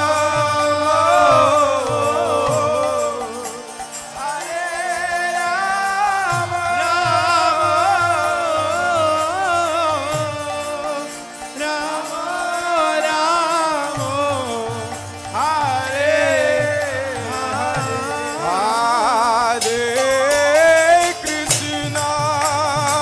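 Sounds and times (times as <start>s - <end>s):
person singing with vibrato: 0.0s - 23.0s.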